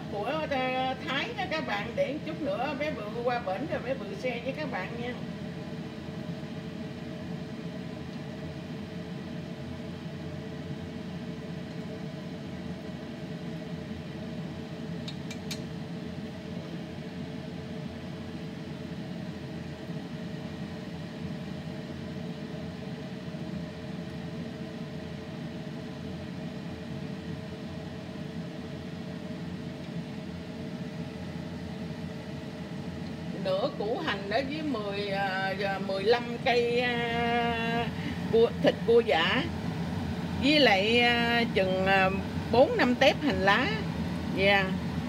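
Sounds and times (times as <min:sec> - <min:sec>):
low hum: 0:00.0 - 0:45.0.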